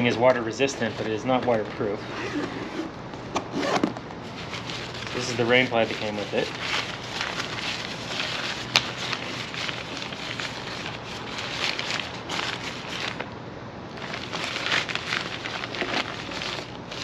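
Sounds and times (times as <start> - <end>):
rain cover rustling: 0.0 - 2.4, 4.2 - 13.2, 14.0 - 17.0.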